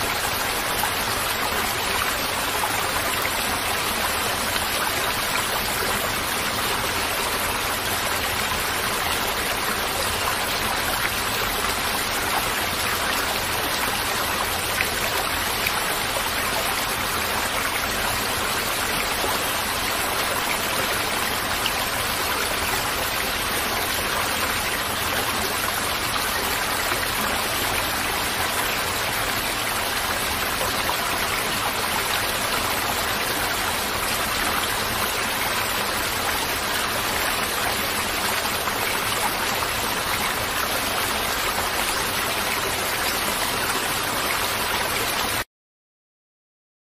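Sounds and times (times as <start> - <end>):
stream water flowing: 0.0 - 45.4.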